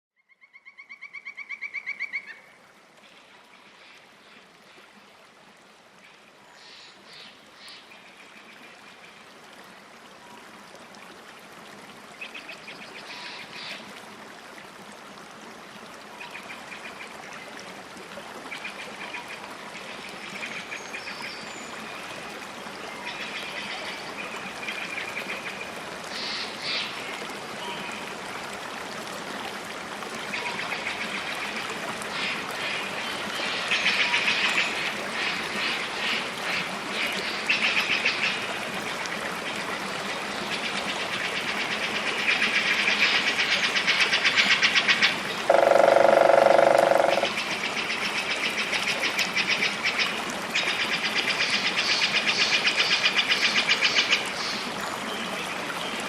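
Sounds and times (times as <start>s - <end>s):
stream trickling: 0.6s - 56.0s.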